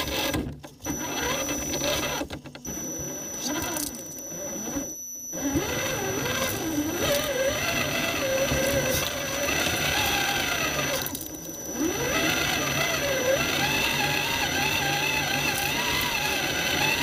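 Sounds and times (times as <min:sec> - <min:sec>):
thin high whine: 0:00.0 - 0:17.0
toy car electric motor whining: 0:00.0 - 0:17.0.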